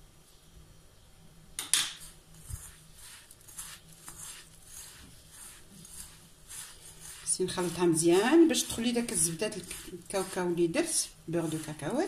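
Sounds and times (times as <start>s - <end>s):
hand mixing crumbly mixture: 2.0s - 12.0s.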